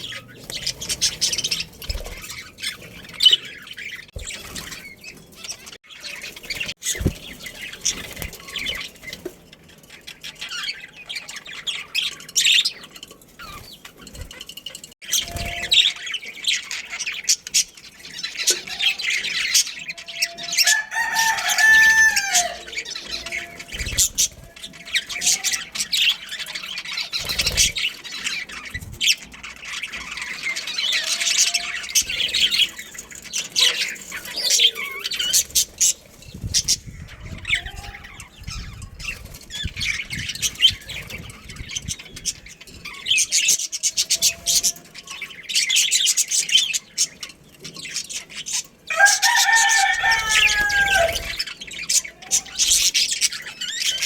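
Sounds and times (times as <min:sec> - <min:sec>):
budgerigars chirping and chattering: 0:00.0 - 0:54.0.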